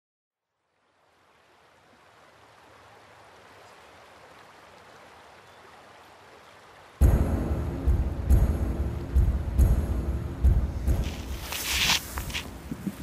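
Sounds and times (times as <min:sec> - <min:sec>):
faint steady rushing noise: 0:01.0 - 0:13.0.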